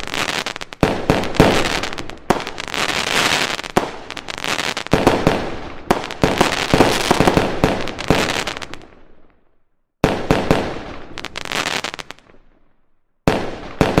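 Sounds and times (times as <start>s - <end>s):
fireworks bangs and crackling: 0.0s - 9.4s, 10.0s - 14.0s.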